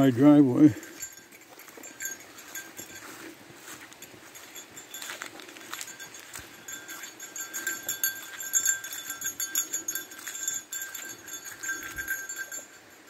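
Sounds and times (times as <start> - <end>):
light metallic jingle: 0.0 - 13.0
footsteps on wet dirt: 0.8 - 12.1.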